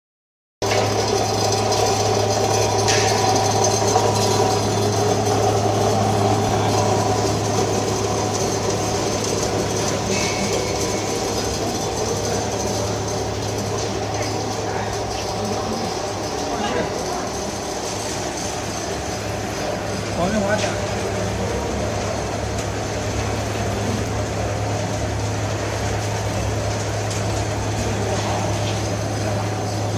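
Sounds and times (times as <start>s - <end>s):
machine hum and whir: 0.6s - 29.9s
popcorn popper blower rushing: 0.6s - 29.9s.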